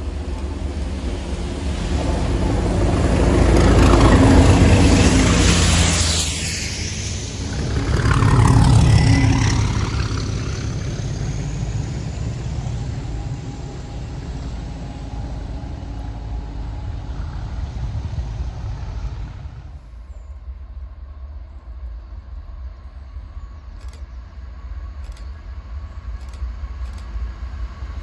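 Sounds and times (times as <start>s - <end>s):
diesel locomotive passing: 0.0s - 28.0s
train rumble: 0.0s - 28.0s.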